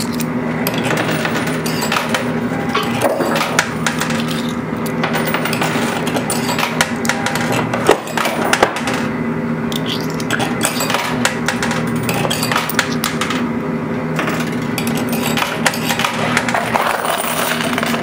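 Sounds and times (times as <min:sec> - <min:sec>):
coins dropping and clinking: 0:00.0 - 0:09.1, 0:09.8 - 0:13.4, 0:14.2 - 0:18.0
machine hum: 0:00.0 - 0:18.0.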